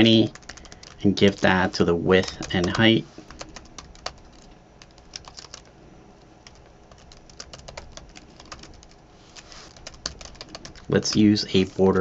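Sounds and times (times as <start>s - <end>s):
computer keyboard typing: 0.0s - 5.7s, 6.4s - 12.0s.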